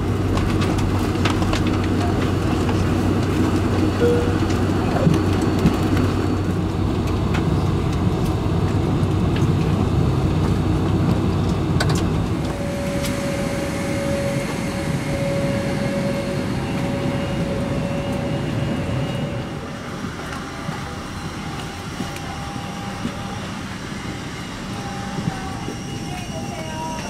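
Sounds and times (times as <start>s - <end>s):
air conditioning rushing hum: 0.0s - 27.0s
steady whine: 0.1s - 8.0s, 10.8s - 27.0s.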